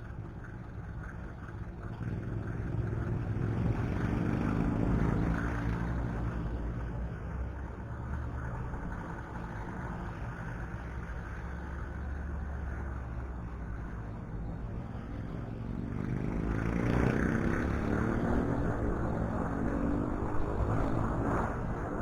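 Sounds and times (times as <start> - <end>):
wind rumble on microphone: 2.0 - 22.0.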